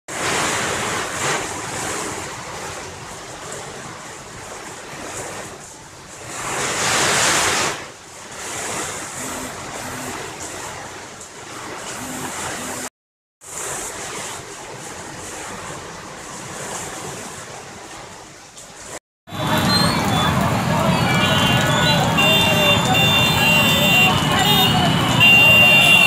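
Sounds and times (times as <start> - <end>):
heavy rain: 0.1 - 26.0.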